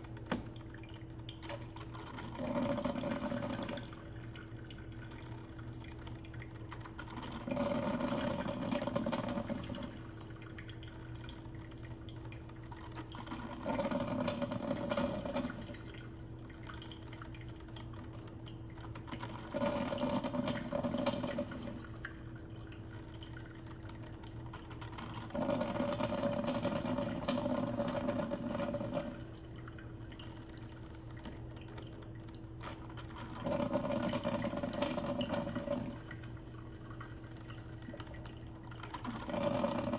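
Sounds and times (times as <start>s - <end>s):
coffee maker gurgling and sputtering: 0.0s - 39.9s.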